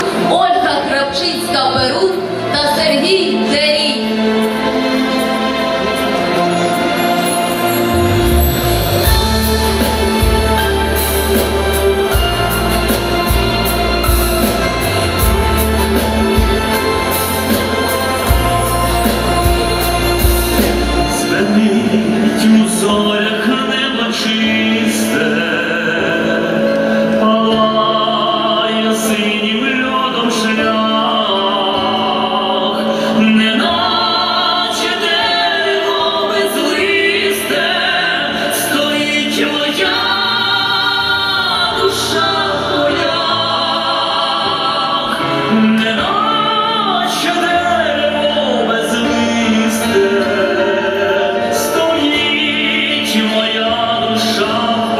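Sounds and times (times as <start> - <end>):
instrumental backing: 0.0 - 54.9
person singing: 0.0 - 54.9.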